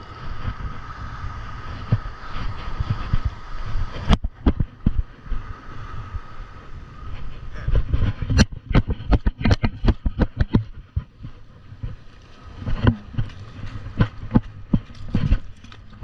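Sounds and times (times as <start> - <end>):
surf and wind rumble: 0.0 - 16.0.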